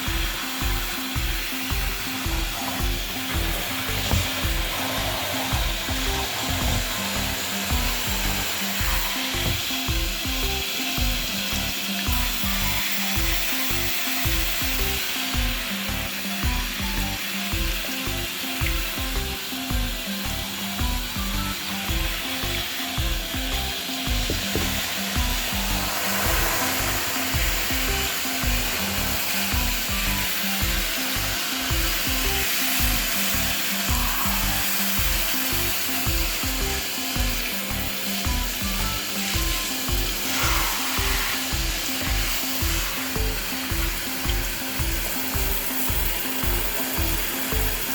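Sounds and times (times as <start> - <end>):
background music with a beat: 0.0 - 47.9
continuous hiss: 0.0 - 47.9.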